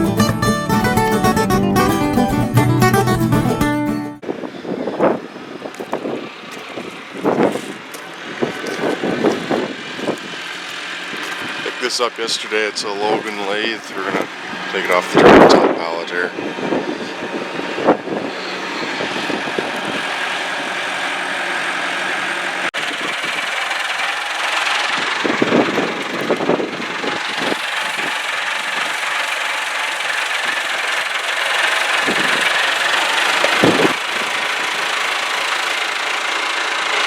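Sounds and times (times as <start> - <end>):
forklift engine running: 0.0 - 37.0.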